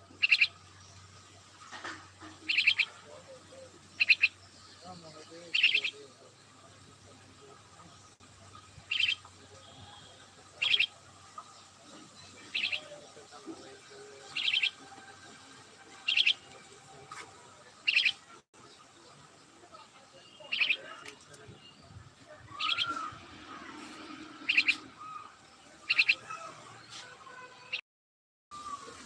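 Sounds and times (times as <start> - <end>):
bird chirping: 0.0 - 27.8.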